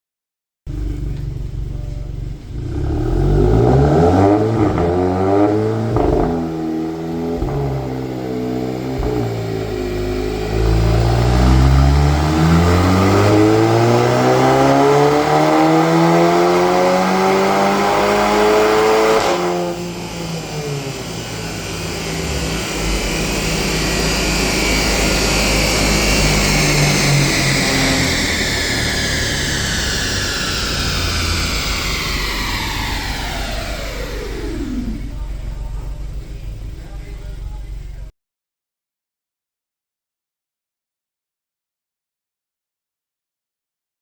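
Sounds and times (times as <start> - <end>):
car engine accelerating hard: 0.7 - 38.1.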